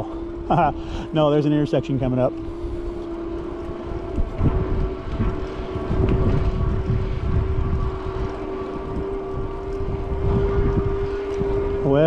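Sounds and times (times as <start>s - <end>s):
electric bike motor whining: 0.0s - 12.0s
wind buffeting microphone: 0.0s - 12.0s.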